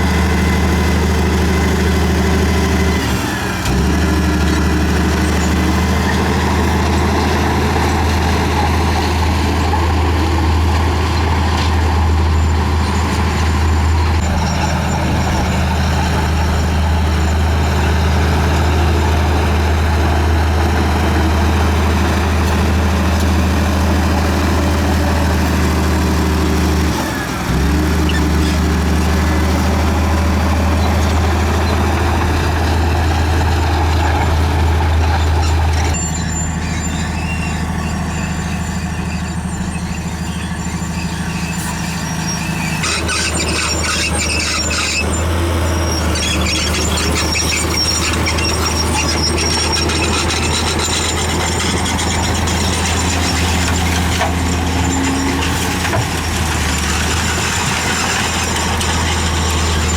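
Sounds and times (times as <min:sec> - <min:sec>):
bulldozer diesel engine: 0:00.0 - 0:59.9
steel tracks squealing: 0:00.0 - 0:59.9.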